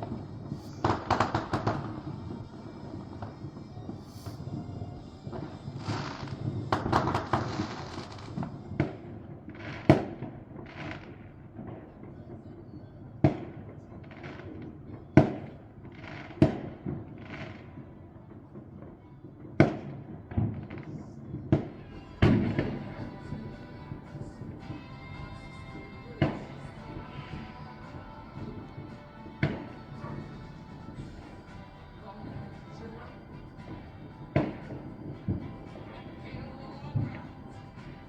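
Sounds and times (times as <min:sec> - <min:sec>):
firework crackling: 0:00.0 - 0:38.0.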